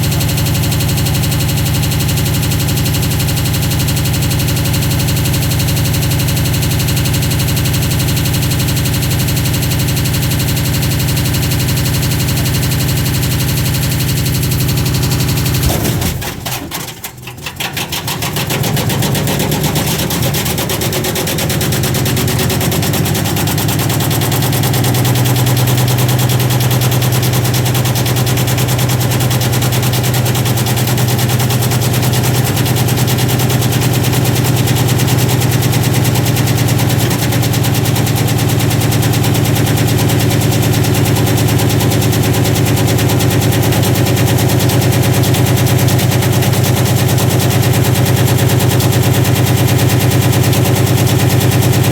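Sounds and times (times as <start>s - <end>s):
washing machine hum: 0.0s - 51.9s.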